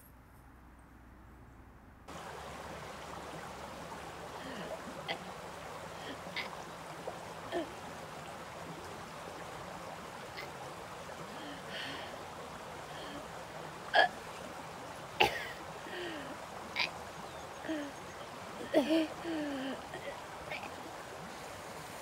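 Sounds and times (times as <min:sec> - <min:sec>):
stream water rushing: 0:02.1 - 0:22.0.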